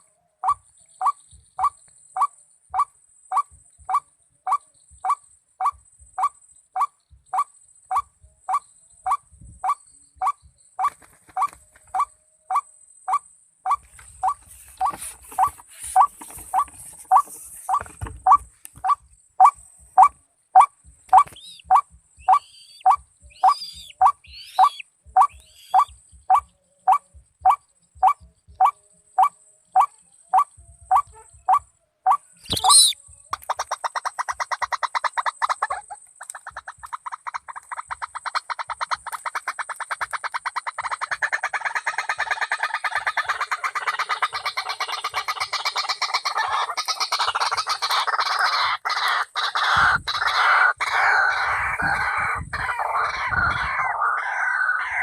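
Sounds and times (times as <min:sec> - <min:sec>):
bird calling: 0:00.0 - 0:55.0.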